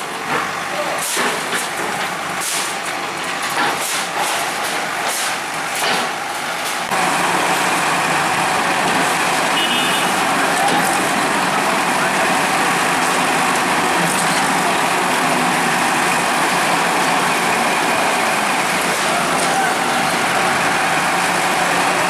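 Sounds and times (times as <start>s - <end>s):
bulldozer demolishing building: 0.0s - 22.0s.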